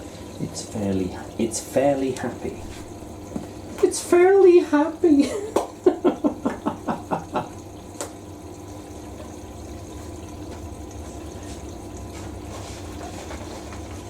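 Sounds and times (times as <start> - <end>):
faint steady hum: 0.0 - 14.0
water rushing into washing machine: 0.0 - 14.0.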